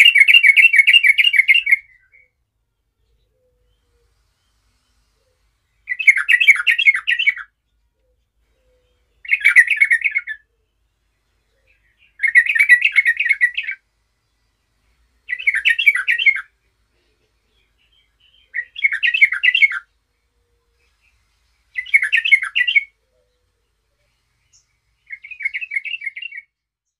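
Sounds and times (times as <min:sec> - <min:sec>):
bird warbling song: 0:00.0 - 0:26.9.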